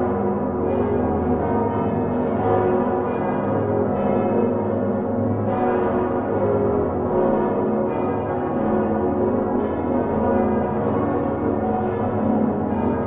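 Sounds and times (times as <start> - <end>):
church bells ringing in a peal: 0.0 - 13.0.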